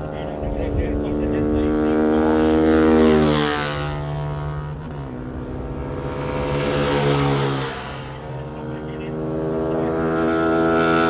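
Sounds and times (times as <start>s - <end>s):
racing motorcycles passing: 0.0s - 11.0s.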